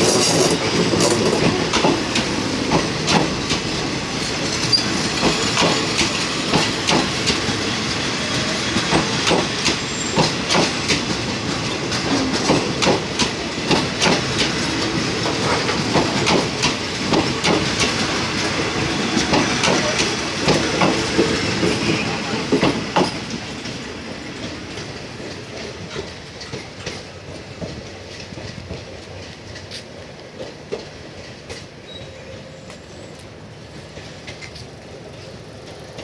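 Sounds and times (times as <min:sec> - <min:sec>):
train wheels clacking over rail joints: 0:00.0 - 0:32.1.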